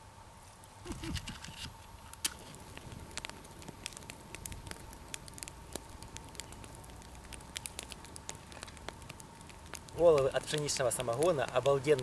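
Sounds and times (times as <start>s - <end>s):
wood fire crackling: 0.0s - 12.0s
fire popping and snapping: 0.5s - 12.0s.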